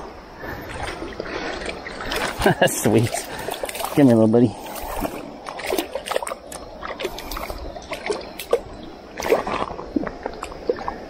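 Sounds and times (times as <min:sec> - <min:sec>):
water splashing in shallow stream: 0:00.0 - 0:11.0.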